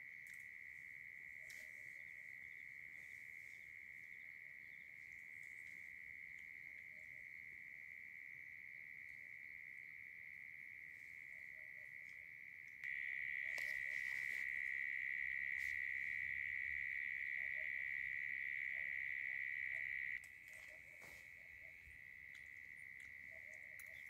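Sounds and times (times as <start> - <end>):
night insects chorus: 0.0 - 24.0.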